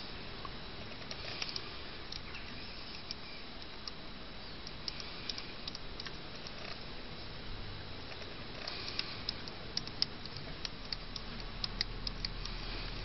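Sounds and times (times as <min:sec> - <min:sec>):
eraser rubbing ticks and clicks: 0:00.8 - 0:04.0, 0:04.6 - 0:06.9, 0:08.0 - 0:13.0.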